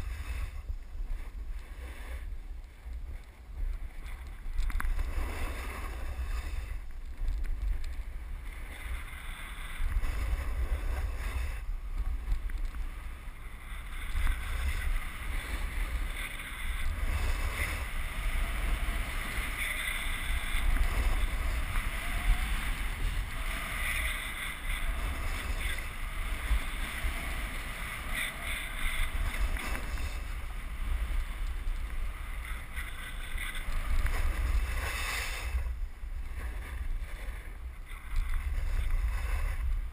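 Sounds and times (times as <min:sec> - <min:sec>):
snowboard carving on snow: 0:00.0 - 0:39.9.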